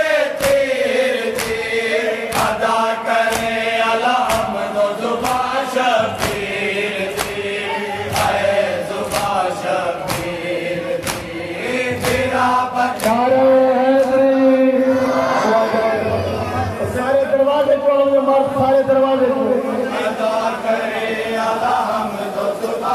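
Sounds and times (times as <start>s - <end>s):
men chanting in unison: 0.0s - 22.9s.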